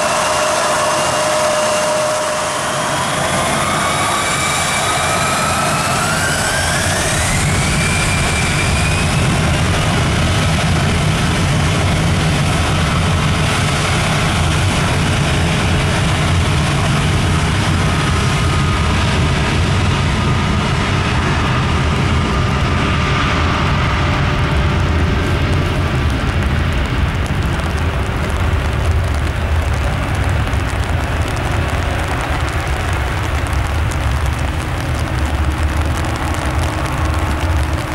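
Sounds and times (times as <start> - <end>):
jet engine roar with whine: 0.0 - 37.9.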